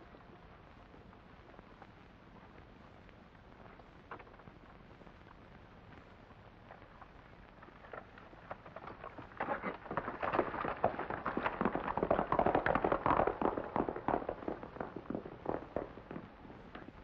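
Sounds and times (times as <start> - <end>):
horse hooves galloping: 3.4 - 17.0.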